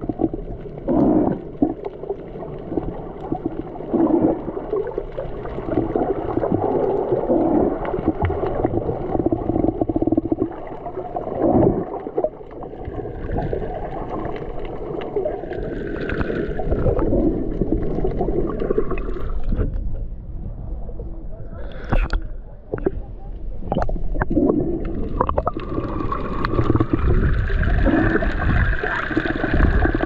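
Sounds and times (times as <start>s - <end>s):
rushing gurgling water: 0.0s - 19.9s, 23.6s - 30.0s.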